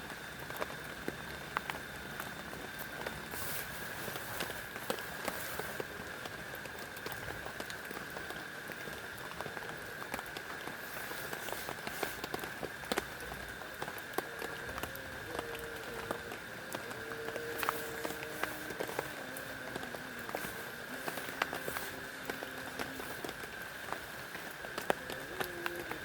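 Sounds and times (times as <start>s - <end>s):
heavy rain falling: 0.0s - 26.0s
raindrops ticking sharply: 0.0s - 26.0s.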